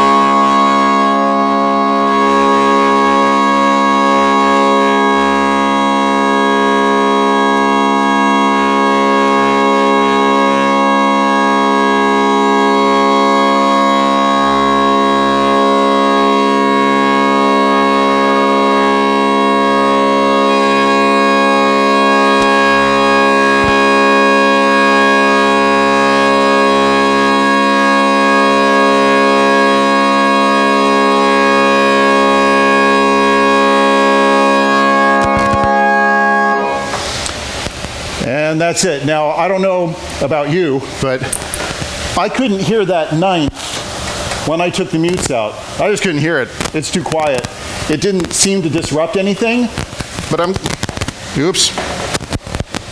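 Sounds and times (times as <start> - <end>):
pipe organ held low tone: 0.0 - 43.6.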